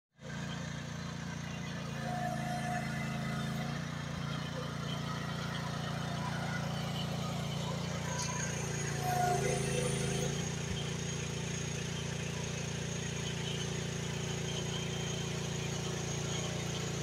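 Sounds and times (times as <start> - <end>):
small excavator engine running: 0.2 - 17.0.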